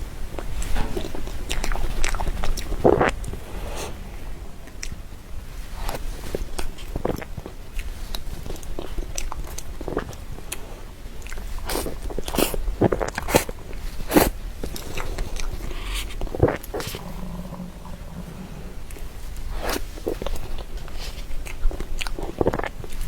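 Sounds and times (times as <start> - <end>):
chewing cake: 0.4 - 3.9, 5.7 - 23.0.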